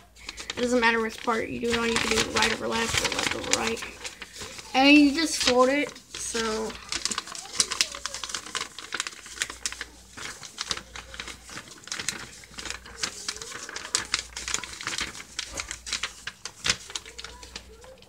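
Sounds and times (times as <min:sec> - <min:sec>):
paper being folded and creased: 0:00.0 - 0:18.0.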